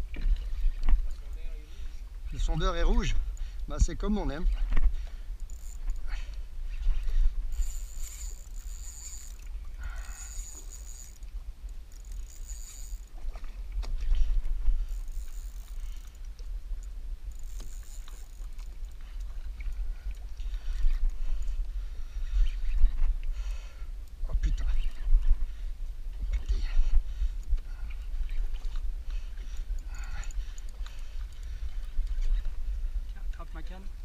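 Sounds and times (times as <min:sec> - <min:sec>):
wind and water rumble: 0:00.0 - 0:34.0.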